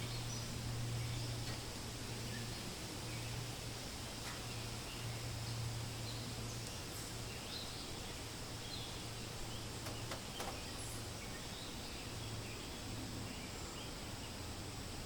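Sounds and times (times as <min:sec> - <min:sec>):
wind through leaves: 0:00.0 - 0:15.0.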